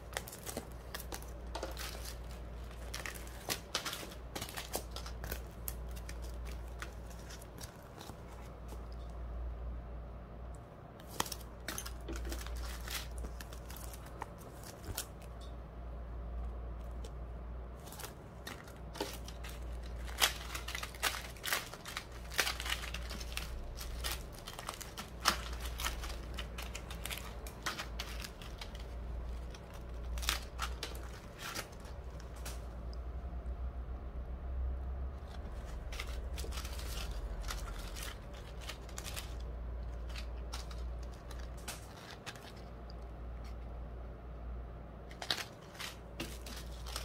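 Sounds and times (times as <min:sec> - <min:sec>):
plastic bags crinkling: 0:00.0 - 0:09.1, 0:11.0 - 0:15.4, 0:17.8 - 0:32.9, 0:35.2 - 0:42.8, 0:45.1 - 0:47.0
steady low hum: 0:00.0 - 0:47.0.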